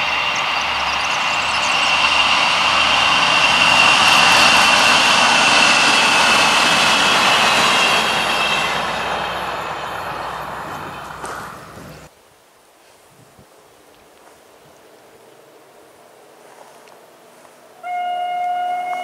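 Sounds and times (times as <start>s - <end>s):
train passing with high whine: 0.0s - 12.1s, 15.1s - 19.0s.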